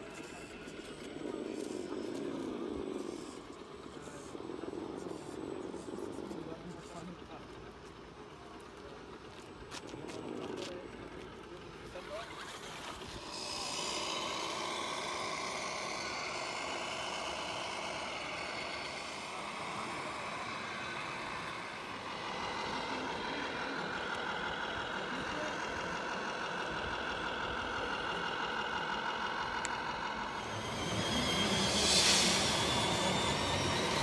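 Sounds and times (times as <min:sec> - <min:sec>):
toy trucks mechanical whine: 0:00.0 - 0:34.0.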